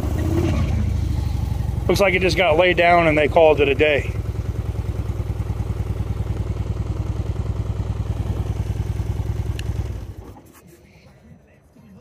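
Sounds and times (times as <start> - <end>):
motorcycle engine idling: 0.0 - 10.4.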